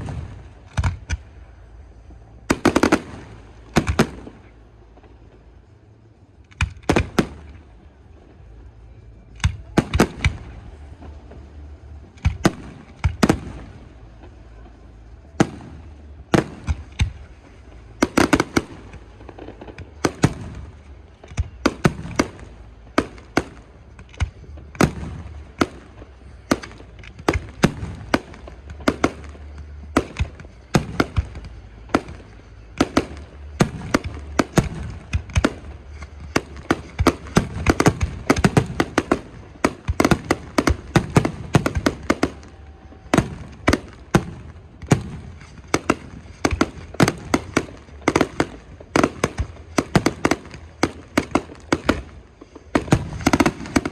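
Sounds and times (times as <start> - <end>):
fireworks bursting with echoing bangs: 0.0 - 53.9.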